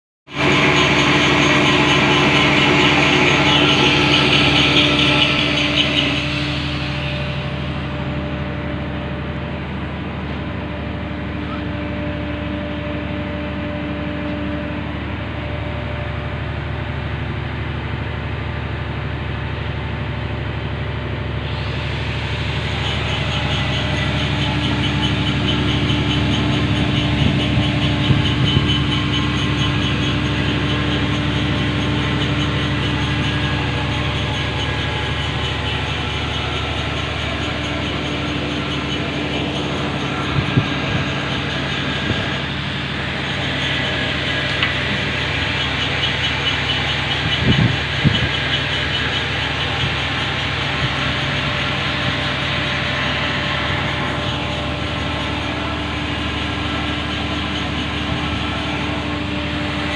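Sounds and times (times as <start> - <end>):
heavy machinery droning: 0.3 - 59.9.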